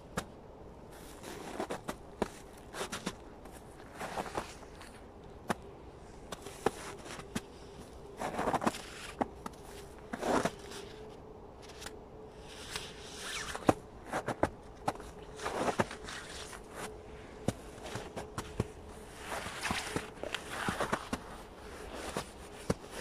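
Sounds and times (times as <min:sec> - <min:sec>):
footsteps crunching in snow: 0:00.9 - 0:05.6, 0:06.3 - 0:23.0.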